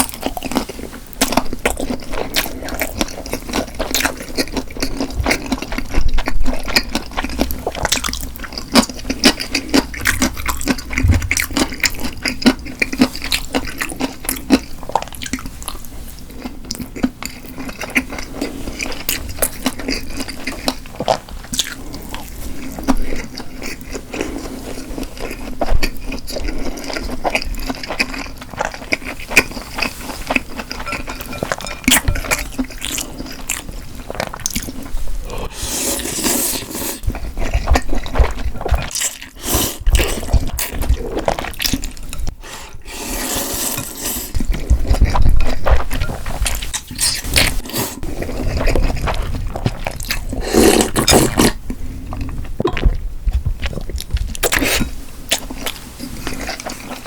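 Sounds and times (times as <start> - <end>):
person chewing wet food: 0.0 - 57.0.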